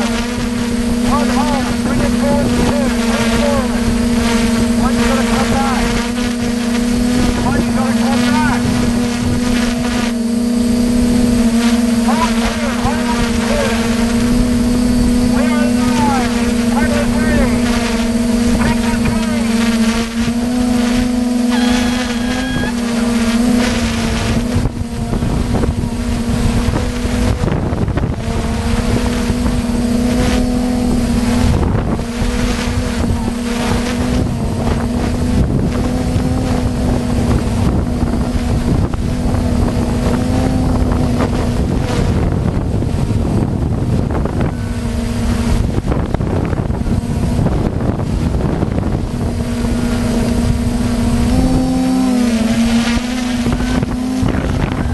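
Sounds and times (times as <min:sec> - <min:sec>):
motor droning: 0:00.0 - 0:54.9
wind buffeting microphone: 0:00.0 - 0:54.9.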